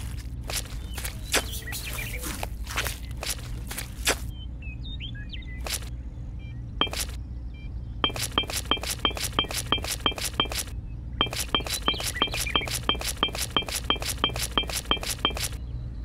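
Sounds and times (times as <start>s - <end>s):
low hum: 0.0s - 16.0s
faint bird chirps: 0.5s - 16.0s.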